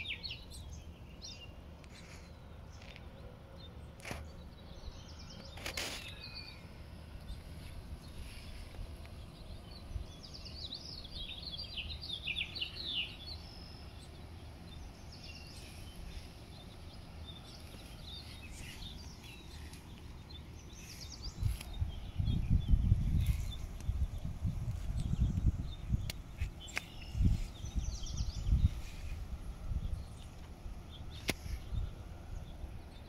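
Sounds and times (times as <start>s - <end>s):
low outdoor background noise: 0.0s - 33.0s
small birds chirping: 0.0s - 33.0s.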